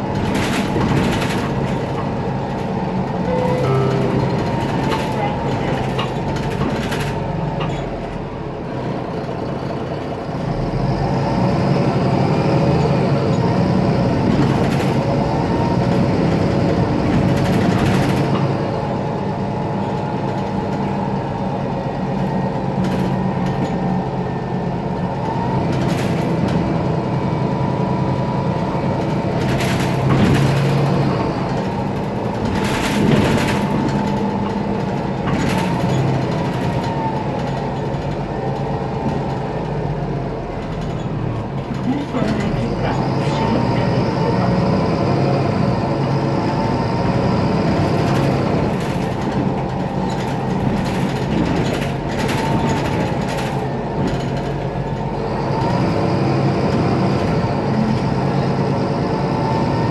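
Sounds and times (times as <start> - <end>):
bus engine drone: 0.0 - 59.9.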